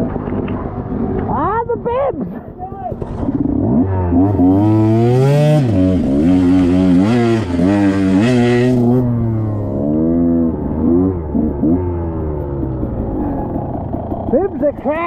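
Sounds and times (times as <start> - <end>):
motorcycle engine revving: 2.3 - 15.0.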